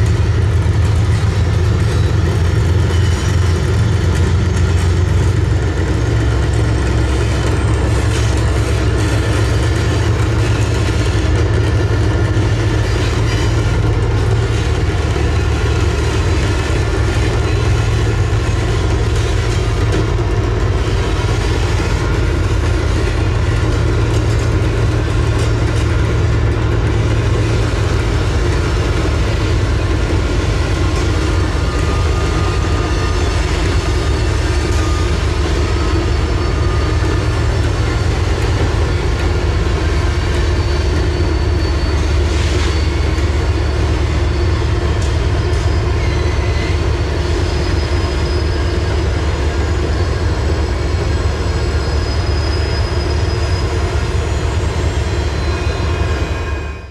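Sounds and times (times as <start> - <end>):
freight train low drone: 0.0 - 56.9
high wheel squeals: 0.1 - 56.9.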